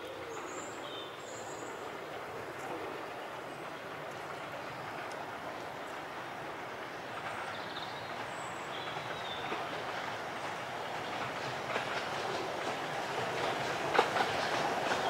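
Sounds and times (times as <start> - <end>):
miniature steam locomotive running: 0.0 - 15.0.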